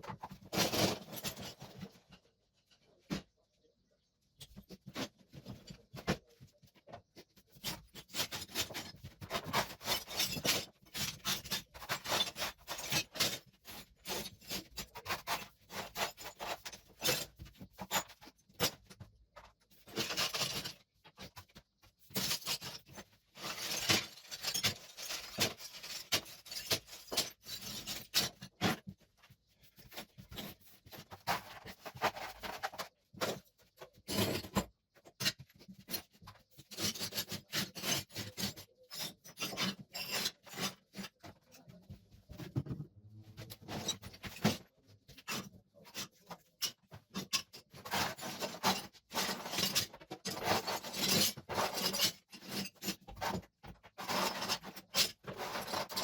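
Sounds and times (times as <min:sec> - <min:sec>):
hand tools scraping tiles: 0:00.0 - 0:02.1, 0:07.2 - 0:42.7, 0:43.4 - 0:56.0.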